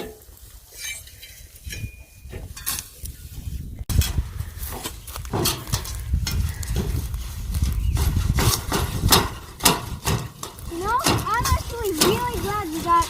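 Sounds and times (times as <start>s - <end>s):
rustling brush: 2.4s - 13.0s.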